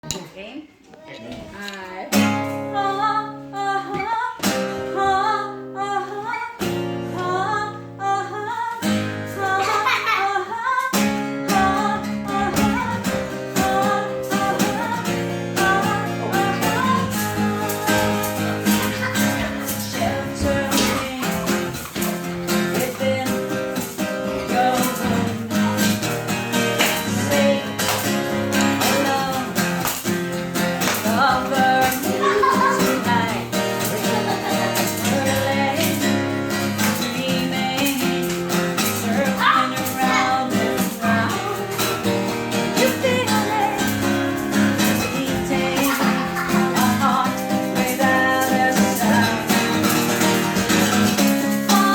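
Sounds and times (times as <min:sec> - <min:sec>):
acoustic guitar strumming: 0:02.1 - 0:51.9
person singing: 0:02.4 - 0:30.0, 0:30.7 - 0:51.9.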